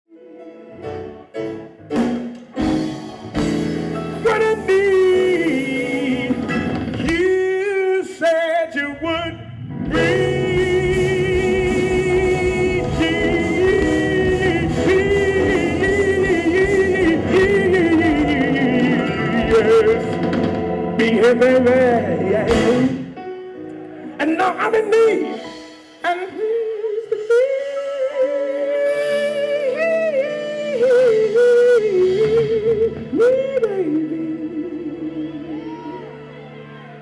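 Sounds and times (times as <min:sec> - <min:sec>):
live funk band music: 0:00.7 - 0:37.0.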